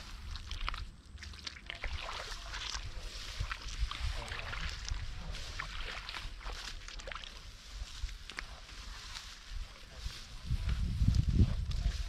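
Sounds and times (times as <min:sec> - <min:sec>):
muddy water sloshing and splashing: 0:00.0 - 0:12.0.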